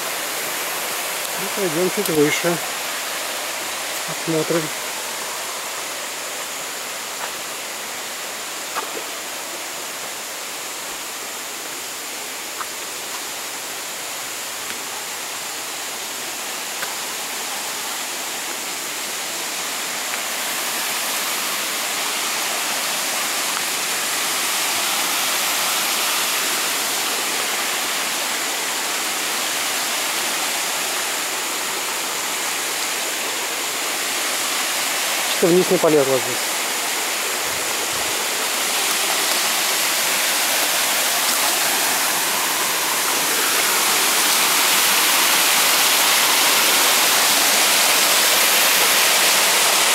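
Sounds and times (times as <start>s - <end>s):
water rushing in rocky stream: 0.0s - 49.9s.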